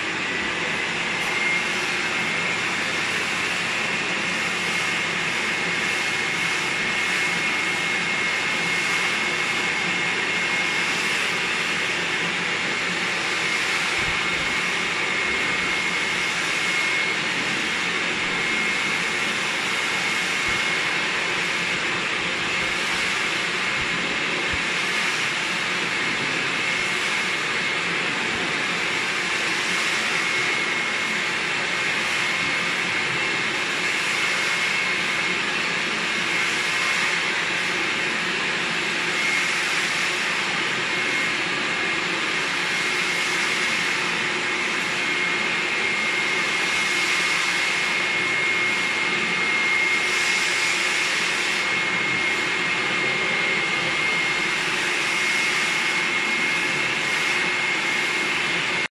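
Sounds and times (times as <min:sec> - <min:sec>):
washing vacuum cleaner whining: 0:00.0 - 0:58.9.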